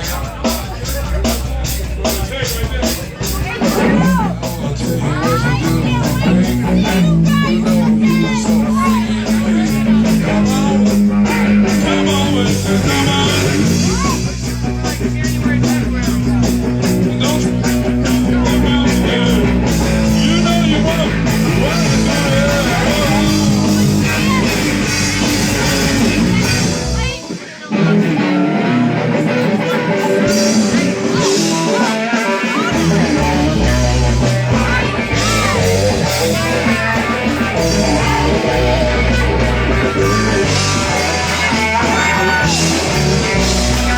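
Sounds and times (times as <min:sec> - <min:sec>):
drum strikes: 0:00.0 - 0:27.6, 0:29.6 - 0:43.9
rock band playing: 0:00.0 - 0:43.9.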